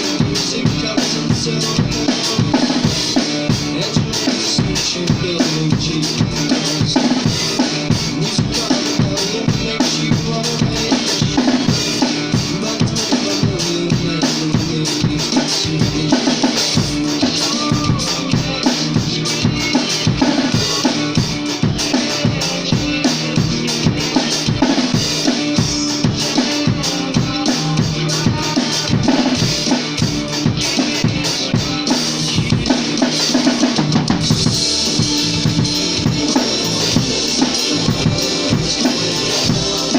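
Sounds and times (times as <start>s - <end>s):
bass drum and snare beat: 0.0s - 39.9s
rock band playing: 0.0s - 39.9s.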